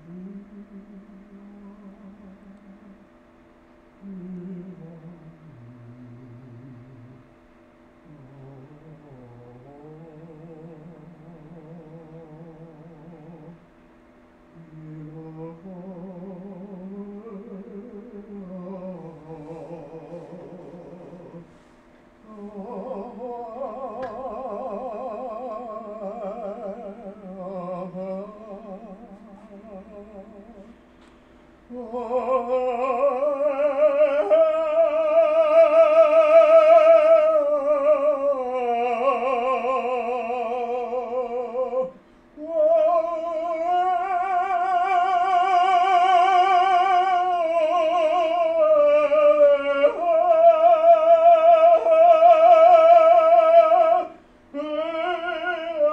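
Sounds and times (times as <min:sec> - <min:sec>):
man singing opera with vibrato: 0:04.0 - 0:07.2, 0:08.0 - 0:13.6, 0:14.6 - 0:21.5, 0:22.2 - 0:30.8, 0:31.7 - 0:55.9.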